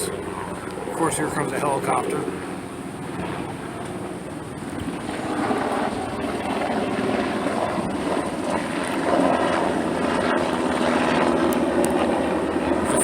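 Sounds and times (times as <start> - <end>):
helicopter flying over: 0.0 - 13.0.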